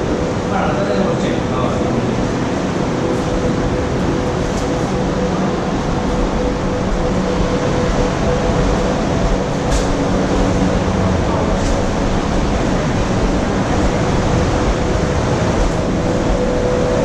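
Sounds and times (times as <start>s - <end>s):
surf roaring in a sea cave: 0.0s - 17.0s.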